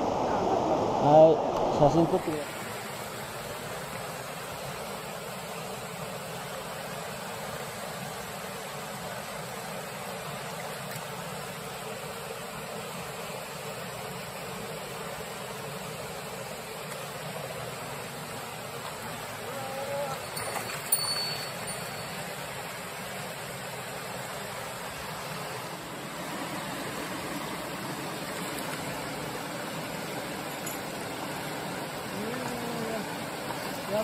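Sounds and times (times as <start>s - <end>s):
stream rapids rushing over rocks: 1.8s - 34.0s.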